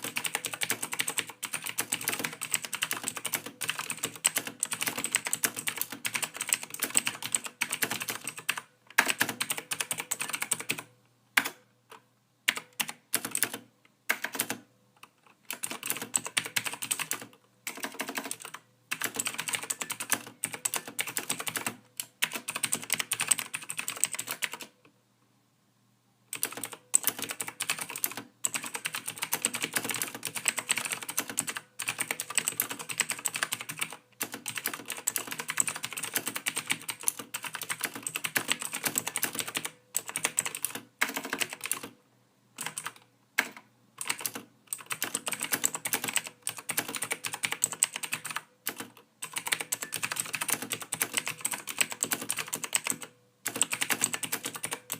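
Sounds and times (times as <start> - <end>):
typing on a keyboard: 0.0 - 24.8, 26.3 - 42.0, 42.6 - 54.9.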